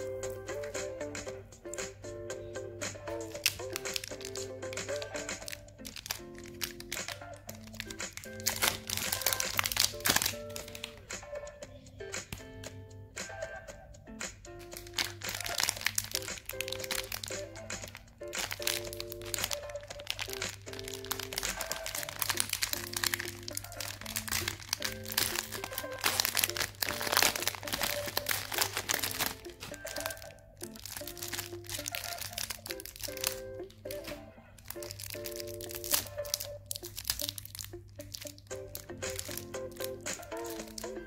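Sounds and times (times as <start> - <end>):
plastic wrappers crinkling: 3.0 - 11.3, 14.6 - 41.0.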